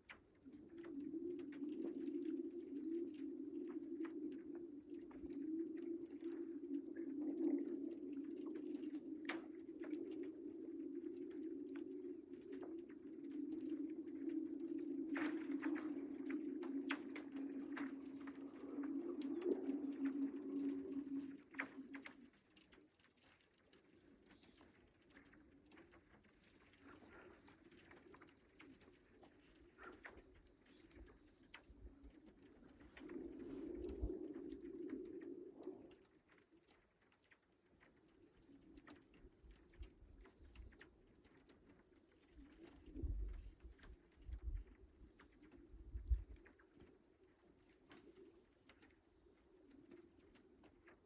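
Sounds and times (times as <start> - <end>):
low hum of lake ice: 0.0 - 51.0.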